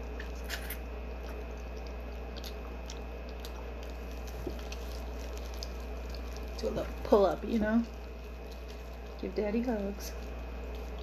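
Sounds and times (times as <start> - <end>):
person chewing wetly: 0.0 - 7.0, 7.8 - 9.2, 10.1 - 11.0
steady low hum: 0.0 - 11.0.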